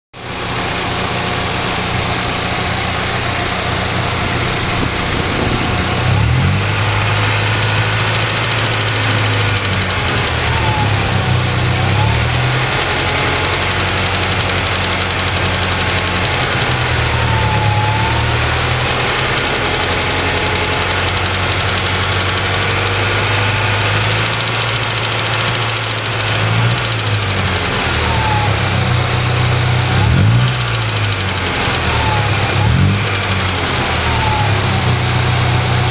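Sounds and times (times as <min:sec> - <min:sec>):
car engine idling: 0:00.2 - 0:35.9
odd engine noise: 0:00.2 - 0:35.9.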